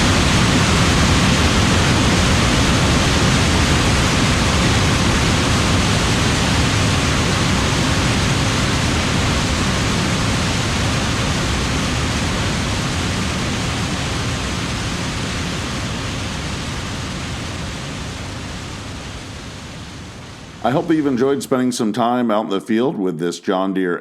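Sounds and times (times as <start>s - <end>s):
combine harvester rushing noise: 0.0s - 21.8s.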